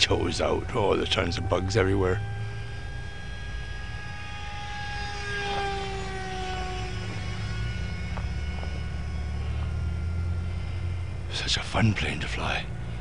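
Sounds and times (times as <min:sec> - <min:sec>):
model plane motor whining: 0:00.0 - 0:13.0.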